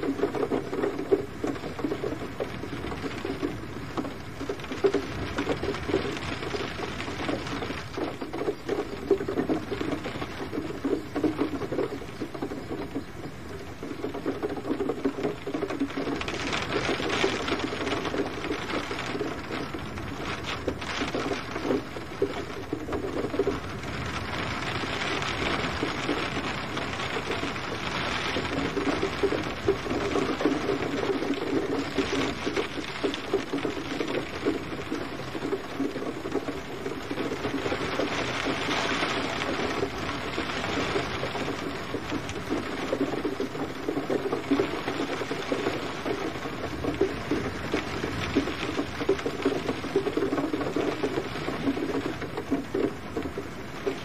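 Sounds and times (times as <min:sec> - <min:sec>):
gentle rain pattering: 0:00.0 - 0:54.0.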